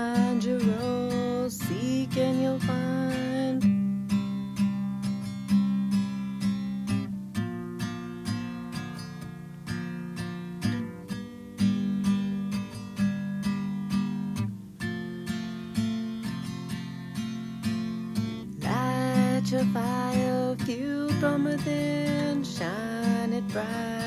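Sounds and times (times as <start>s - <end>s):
strummed acoustic guitar: 0.0s - 24.0s.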